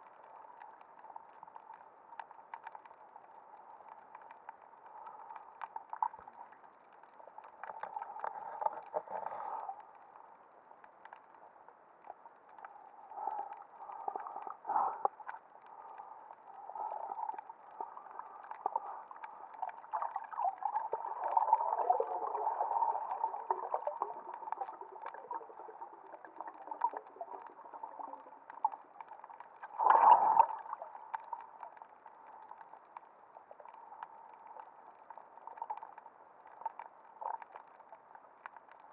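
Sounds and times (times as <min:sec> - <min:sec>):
muffled underwater sloshing: 0:00.0 - 0:38.9.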